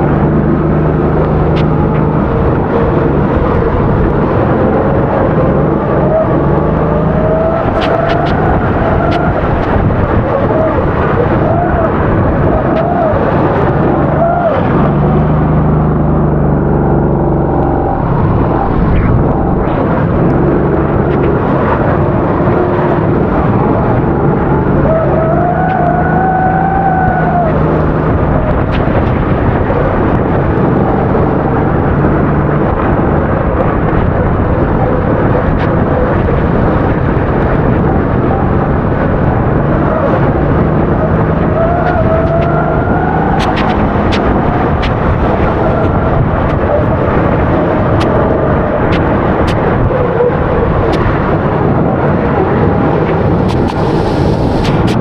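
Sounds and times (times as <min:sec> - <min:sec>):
heavy noisy rush: 0:00.0 - 0:55.0
kart engine revving: 0:00.0 - 0:55.0.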